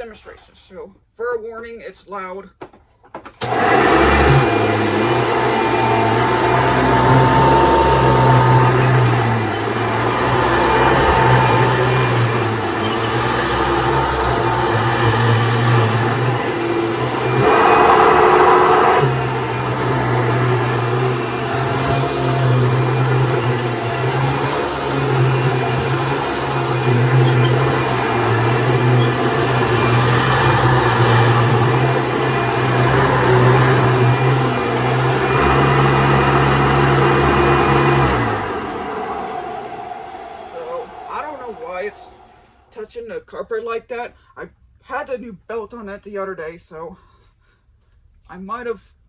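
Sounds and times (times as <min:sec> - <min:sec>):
vacuum cleaner motor drone: 0:03.4 - 0:42.7.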